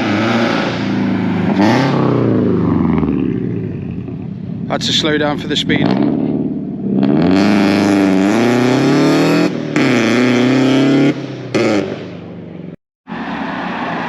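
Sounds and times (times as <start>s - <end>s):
car engine accelerating hard: 0.0s - 12.2s.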